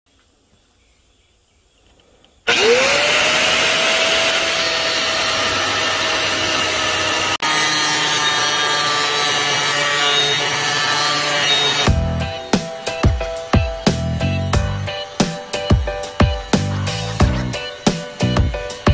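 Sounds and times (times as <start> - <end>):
angle grinder cutting steel: 2.5 - 18.9.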